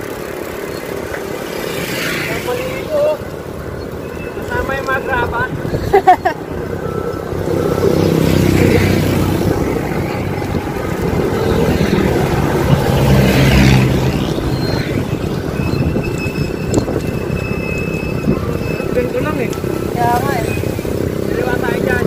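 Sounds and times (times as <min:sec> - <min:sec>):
vehicles passing: 0:00.0 - 0:22.0
wind on microphone: 0:03.3 - 0:22.0.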